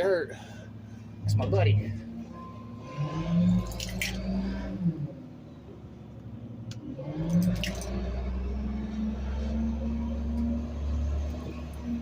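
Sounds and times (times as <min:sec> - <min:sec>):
garbage truck engine: 0:00.2 - 0:12.0.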